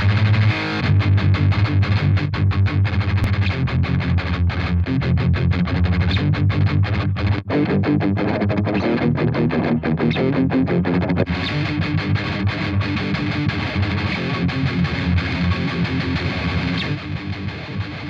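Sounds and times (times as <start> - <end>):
distorted electric guitar metal riff: 0.0 - 18.0.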